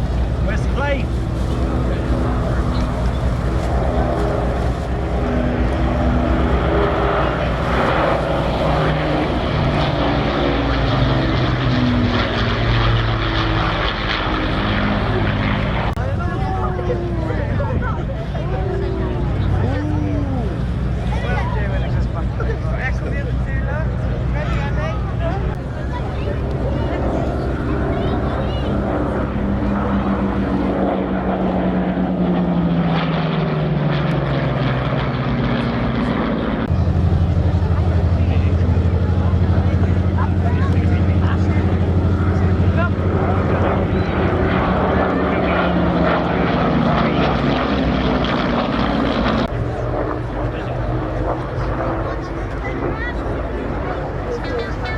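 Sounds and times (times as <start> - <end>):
propeller aircraft engines droning: 0.0 - 54.9.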